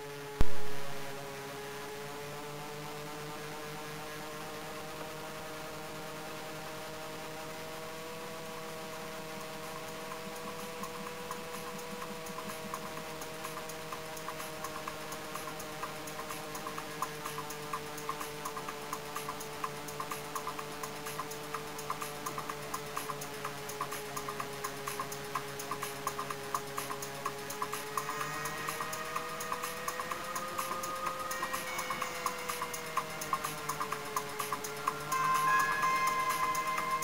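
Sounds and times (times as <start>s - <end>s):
model plane motors humming: 1.4s - 37.0s.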